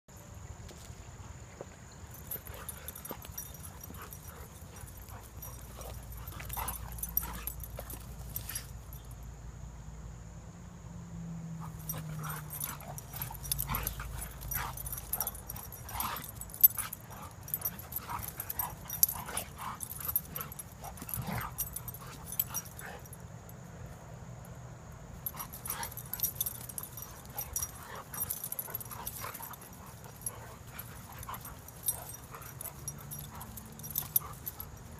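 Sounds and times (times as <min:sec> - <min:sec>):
dogs play-fighting: 0:02.1 - 0:09.2, 0:11.6 - 0:23.3, 0:25.2 - 0:34.9.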